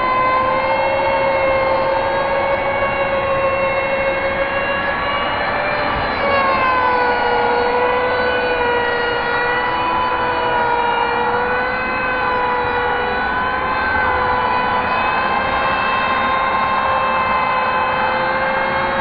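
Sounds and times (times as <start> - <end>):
siren-like drone of held tones: 0.0 - 19.0.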